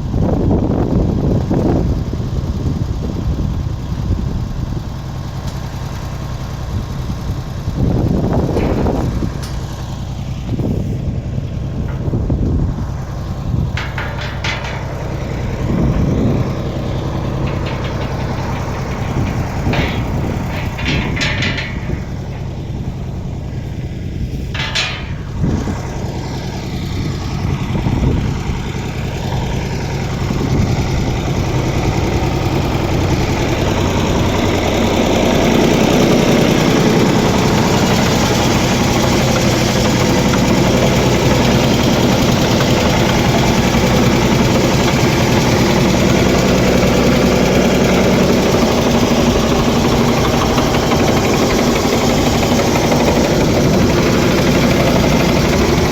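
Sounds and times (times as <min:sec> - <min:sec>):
tractor engine running: 0:00.0 - 0:55.9
short engine knocks: 0:07.9 - 0:55.9.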